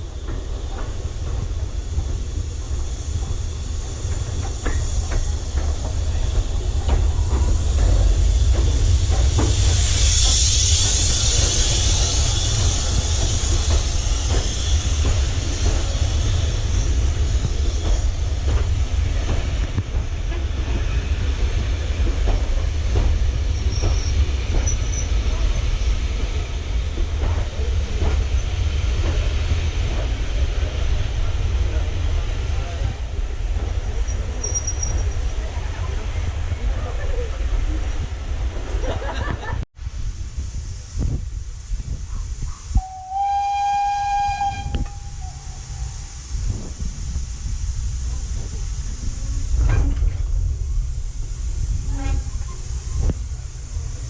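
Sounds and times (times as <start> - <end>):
train hiss: 0.0 - 54.0
train rumbling: 0.0 - 54.0.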